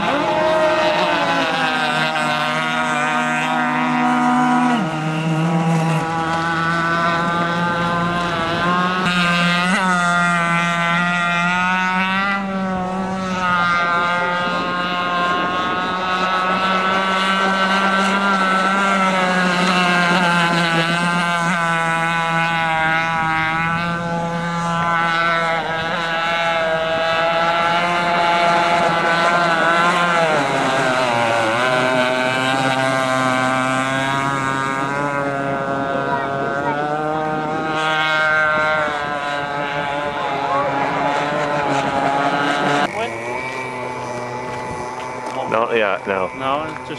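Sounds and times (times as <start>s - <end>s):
model racing boat engine: 0.0s - 46.9s.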